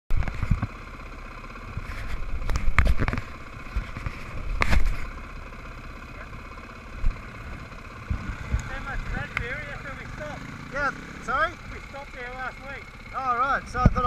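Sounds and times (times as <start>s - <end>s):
dirt bike engines idling: 0.1s - 14.0s.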